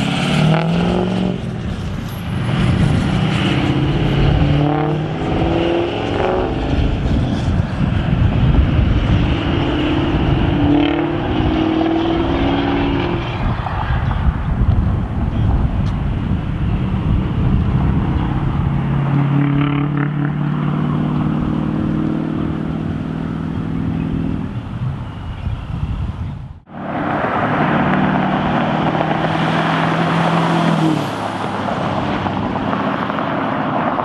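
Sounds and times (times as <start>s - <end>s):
truck diesel engine rumble: 0.0s - 34.0s.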